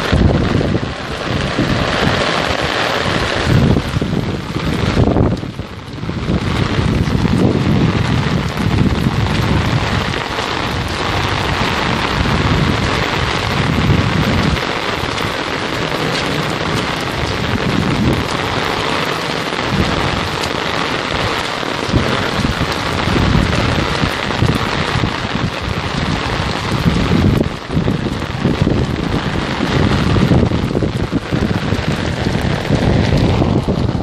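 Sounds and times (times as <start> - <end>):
low rumbles: 0.0 - 34.0
torrential rain pouring: 0.0 - 34.0.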